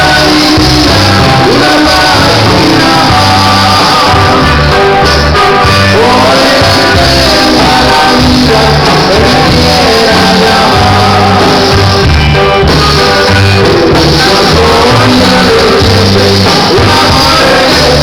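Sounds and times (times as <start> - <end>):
band music: 0.0 - 18.0
person singing: 0.0 - 18.0
steady bass notes: 0.0 - 18.0.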